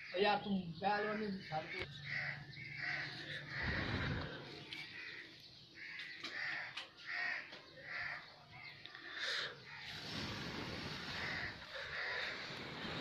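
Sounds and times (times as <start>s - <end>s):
crows cawing: 1.0s - 10.0s, 11.0s - 13.0s.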